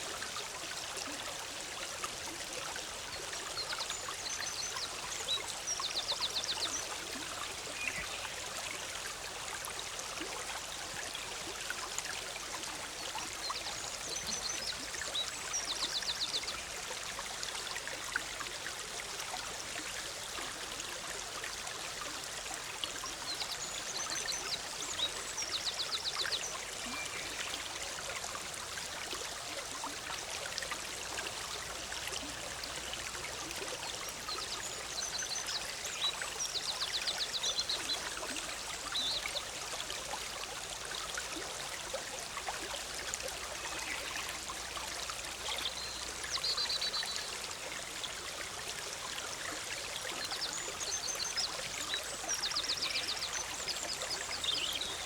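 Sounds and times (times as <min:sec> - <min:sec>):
stream bubbling over rocks: 0:00.0 - 0:55.0.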